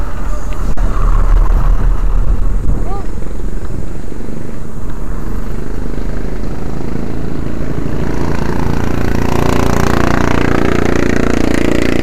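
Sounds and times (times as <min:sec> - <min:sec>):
road traffic rumble: 0:00.0 - 0:12.0
wind buffeting microphone: 0:00.0 - 0:12.0.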